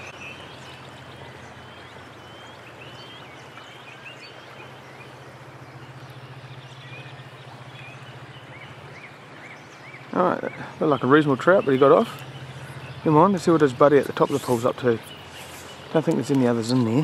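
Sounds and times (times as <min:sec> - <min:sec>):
bird chirps: 0:00.0 - 0:17.0
low steady hum: 0:00.0 - 0:17.0
shallow river rushing: 0:00.0 - 0:17.0.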